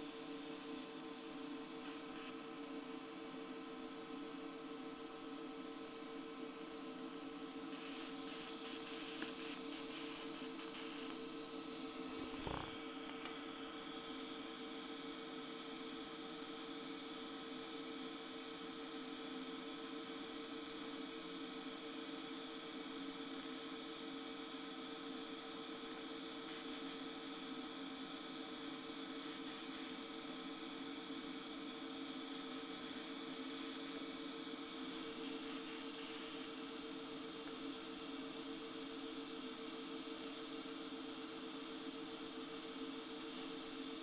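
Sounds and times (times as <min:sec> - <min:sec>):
welder electrical hum with hiss: 0:00.0 - 0:44.0.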